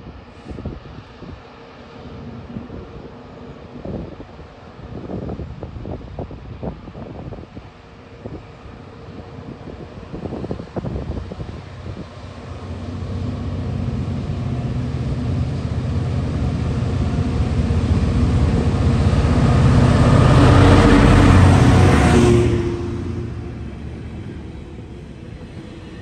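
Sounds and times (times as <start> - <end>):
diesel locomotive engine: 0.0 - 26.0
freight train passing: 0.0 - 26.0.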